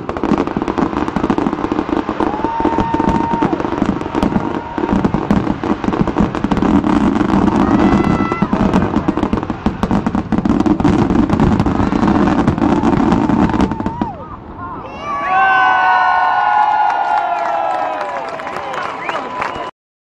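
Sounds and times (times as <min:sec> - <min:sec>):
fireworks whistling: 0:00.0 - 0:16.4
fireworks bangs and crackling: 0:00.0 - 0:17.9.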